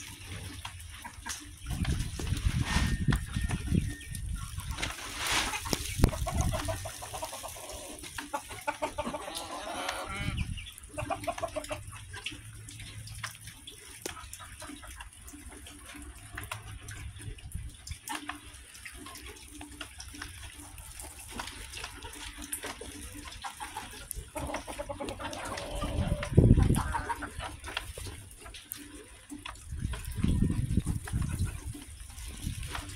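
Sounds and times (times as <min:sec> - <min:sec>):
hens clucking: 0:00.0 - 0:13.0, 0:14.0 - 0:16.8, 0:18.2 - 0:32.9.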